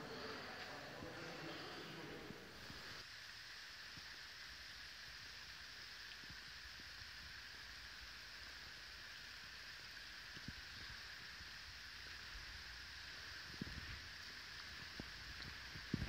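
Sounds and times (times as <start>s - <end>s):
light rain hiss: 0.0s - 16.0s.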